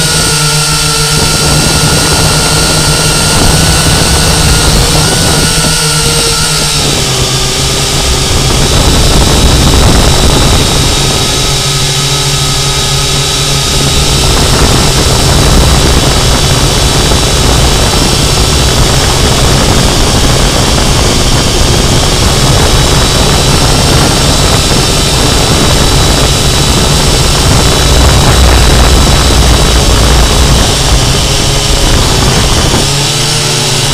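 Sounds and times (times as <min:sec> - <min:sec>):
drone propellers whining: 0:00.0 - 0:33.9
wind rumble on microphone: 0:00.0 - 0:33.9.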